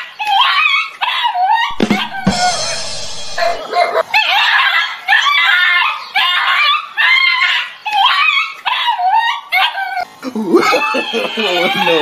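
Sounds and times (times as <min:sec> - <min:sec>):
dog yelping: 0:00.4 - 0:10.1.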